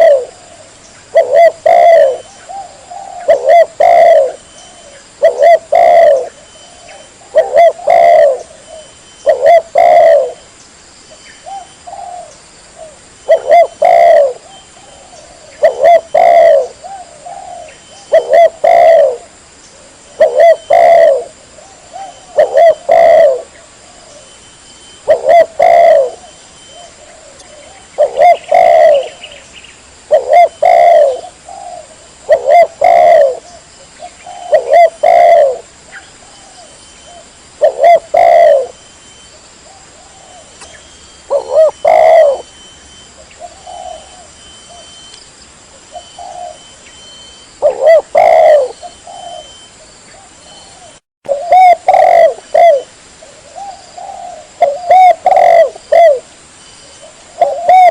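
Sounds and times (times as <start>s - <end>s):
dove cooing: 0.0s - 10.4s, 11.4s - 29.4s, 30.0s - 45.1s, 45.8s - 57.9s.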